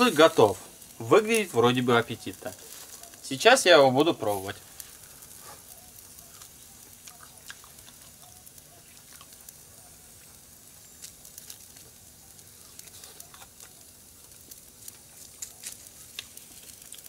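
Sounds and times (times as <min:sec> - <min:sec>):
meat sizzling over charcoal: 0:00.0 - 0:17.0.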